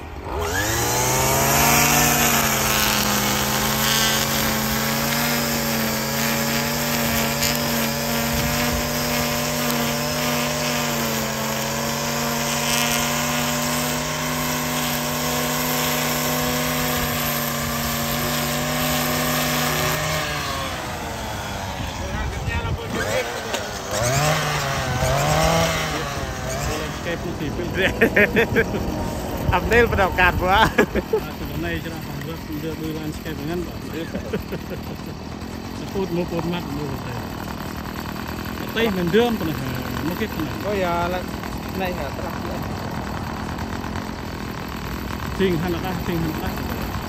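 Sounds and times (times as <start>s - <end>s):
string trimmer engine revving: 0.0s - 47.0s
trimmer line edging grass on concrete: 0.0s - 47.0s.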